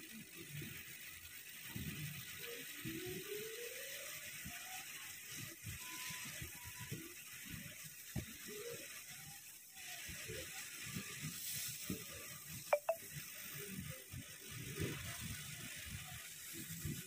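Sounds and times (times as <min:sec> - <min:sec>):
small mechanical ticks: 0:00.0 - 0:17.0
steady hiss: 0:00.0 - 0:17.0.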